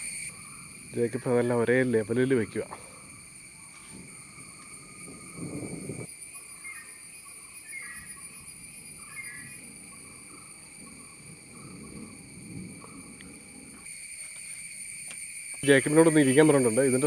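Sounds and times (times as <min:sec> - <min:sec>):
insects shrilling in trees: 0:00.0 - 0:17.0.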